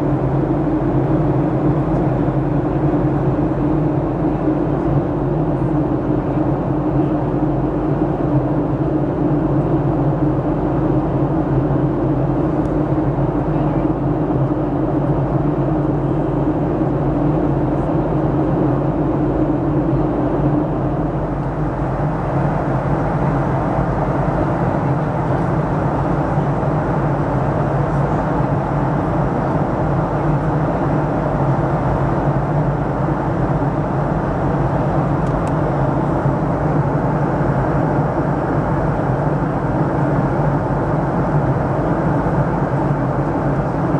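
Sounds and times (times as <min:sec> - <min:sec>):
air rushing along fuselage: 0:00.0 - 0:43.9
jet engines droning: 0:00.0 - 0:43.9.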